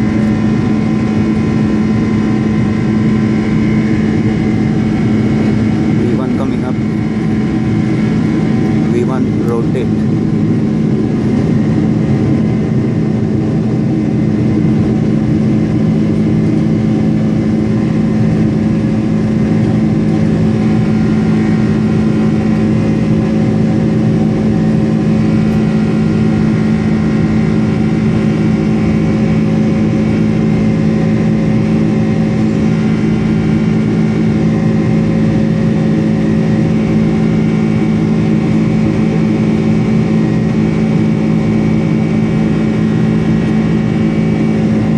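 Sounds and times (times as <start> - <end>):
jet engines droning in cabin: 0.0 - 44.9
steady whining tones: 0.0 - 44.9.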